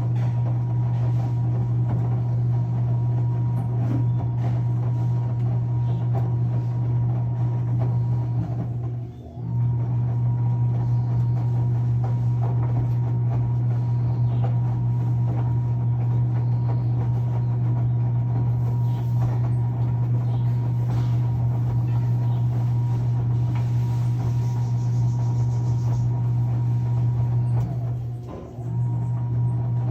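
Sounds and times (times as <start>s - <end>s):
washing machine running: 0.0s - 29.9s.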